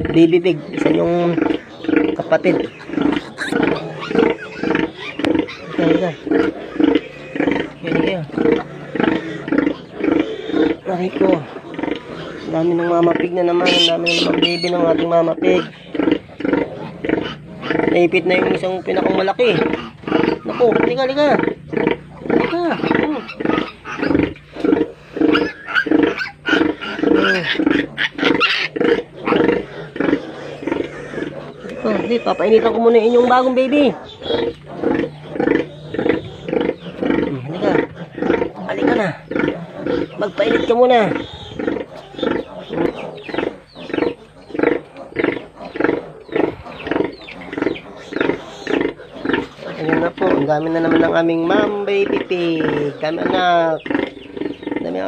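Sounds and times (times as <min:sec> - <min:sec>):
pigs grunting and squealing: 0:00.0 - 0:55.0.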